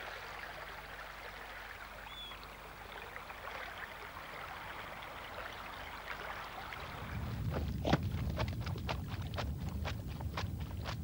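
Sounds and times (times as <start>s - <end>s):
water flowing over sand: 0.0s - 11.0s.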